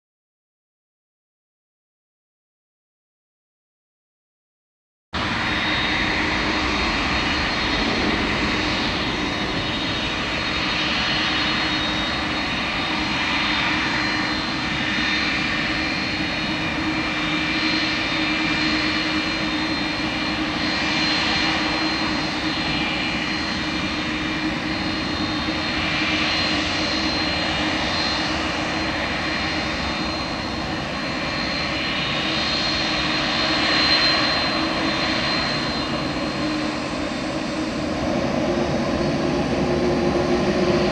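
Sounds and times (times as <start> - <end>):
jet engines running: 5.2 - 40.9.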